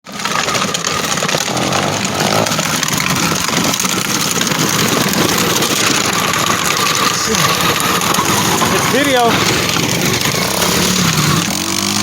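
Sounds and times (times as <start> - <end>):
small dirt bike engine: 0.0 - 12.0.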